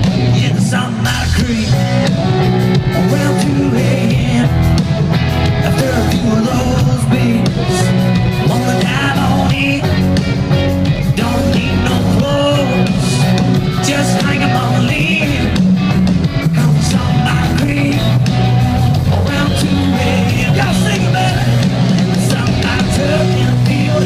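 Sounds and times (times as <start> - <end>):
man singing: 0.0 - 10.3, 11.0 - 15.7, 16.4 - 24.0
live rock band playing: 0.0 - 24.0.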